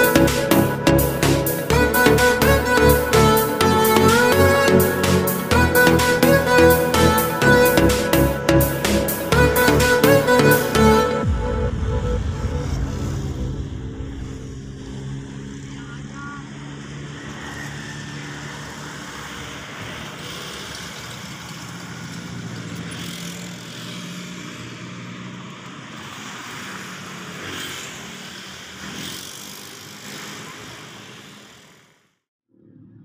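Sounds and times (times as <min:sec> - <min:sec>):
road traffic: 0:00.0 - 0:32.3.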